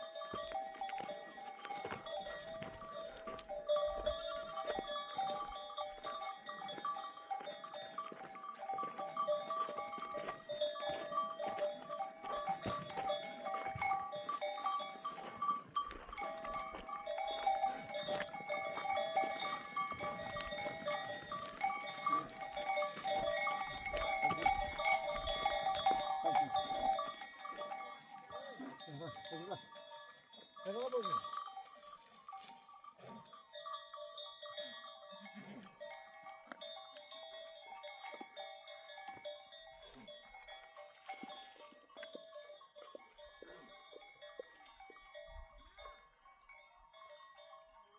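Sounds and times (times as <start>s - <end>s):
livestock bells clanking: 0.0s - 47.9s.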